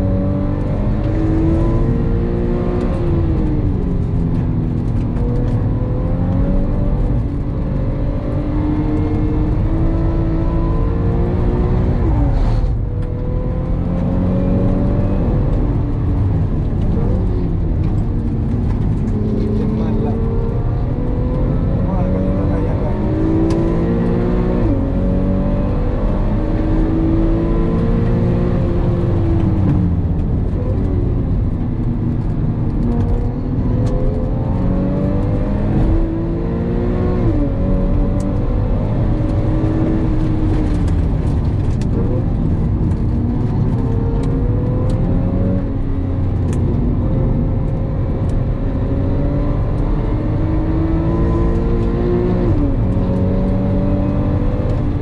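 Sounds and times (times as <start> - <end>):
car engine revving through gears: 0.0 - 55.0
road noise: 0.0 - 55.0.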